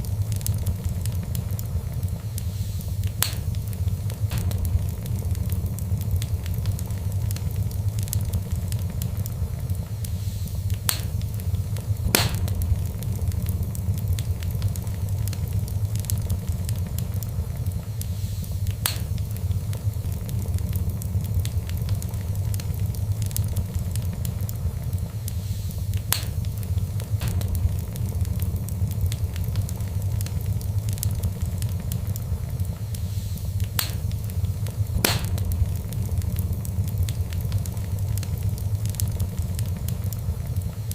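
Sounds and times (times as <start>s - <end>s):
fire crackling and popping: 0.0s - 40.9s
steady low rumble: 0.0s - 40.9s.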